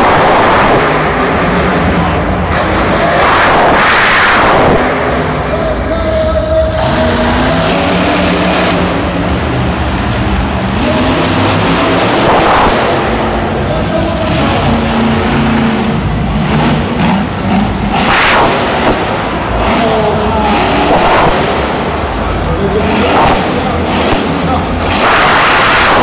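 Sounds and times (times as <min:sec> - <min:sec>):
music over loudspeakers: 0:00.0 - 0:26.0
truck engines revving: 0:00.0 - 0:26.0.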